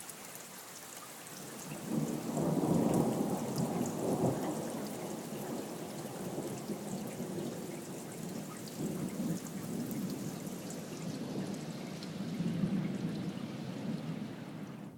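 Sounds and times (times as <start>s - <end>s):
steady rain: 0.0s - 14.9s
thunder rumbling: 1.8s - 14.9s.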